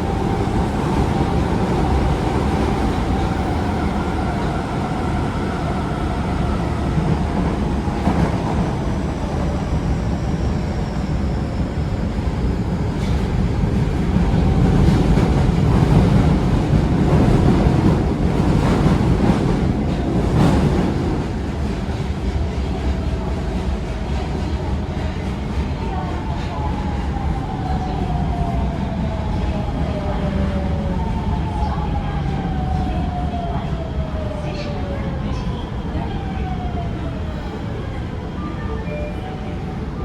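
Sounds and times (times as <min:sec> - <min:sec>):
subway train rumble: 0:00.0 - 0:40.0.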